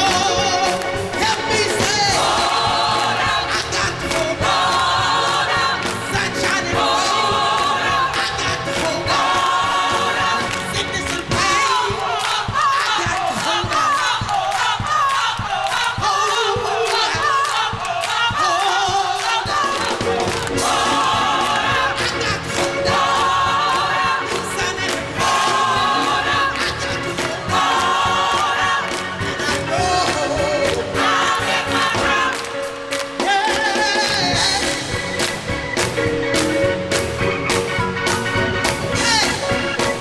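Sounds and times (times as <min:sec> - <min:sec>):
instrumental accompaniment: 0:00.0 - 0:13.2, 0:19.2 - 0:40.0
gospel choir singing: 0:00.0 - 0:40.0.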